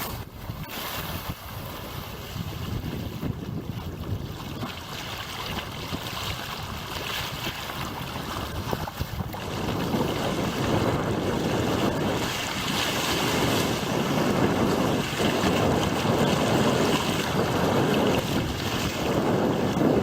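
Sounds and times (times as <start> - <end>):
water splashing along hull: 0.0 - 20.0
wind buffeting microphone: 0.0 - 20.0.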